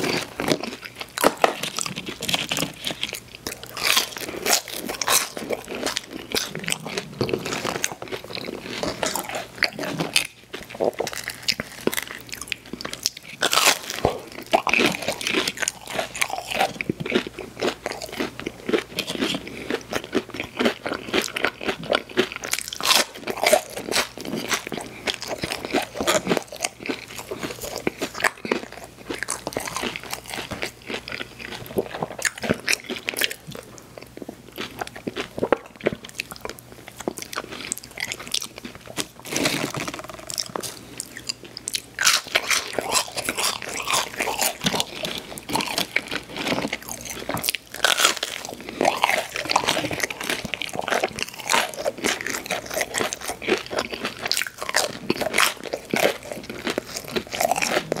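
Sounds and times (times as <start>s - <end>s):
chewing crispy fried food: 0.0s - 58.0s.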